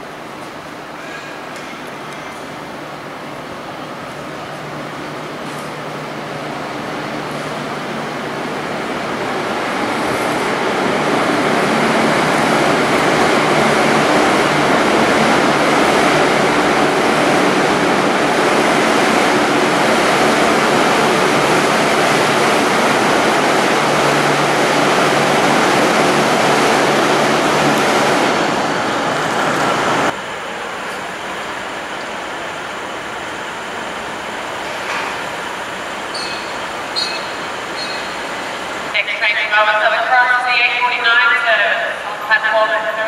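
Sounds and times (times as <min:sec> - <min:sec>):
diesel railcar rumbling past: 0:00.0 - 0:39.0.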